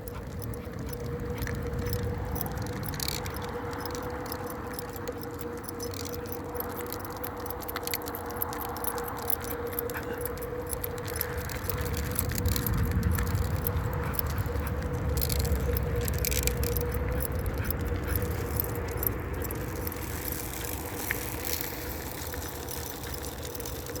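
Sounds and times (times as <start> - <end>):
metallic jingling and clicking: 0.0 - 24.0
wheel rolling rumble: 0.0 - 24.0.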